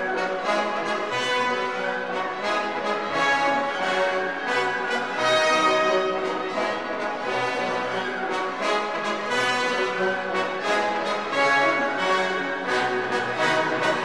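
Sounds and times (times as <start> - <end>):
orchestral music with brass: 0.0 - 14.0.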